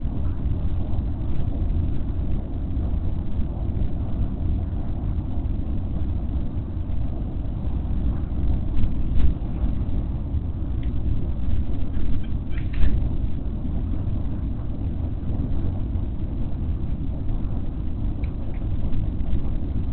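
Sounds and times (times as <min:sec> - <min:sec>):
low outdoor rumble: 0:00.0 - 0:19.9.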